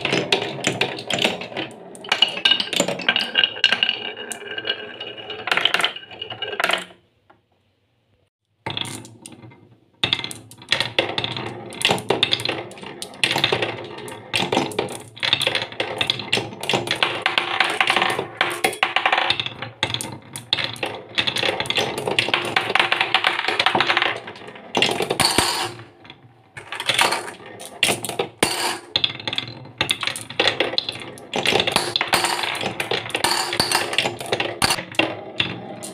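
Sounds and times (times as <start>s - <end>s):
marbles clattering down wooden track: 0.0s - 7.0s, 8.6s - 35.9s.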